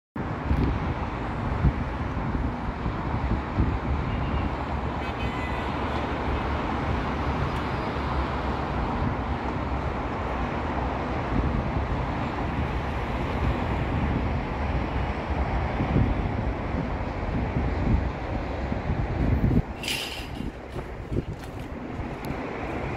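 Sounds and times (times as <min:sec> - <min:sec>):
road traffic noise: 0:00.2 - 0:22.9.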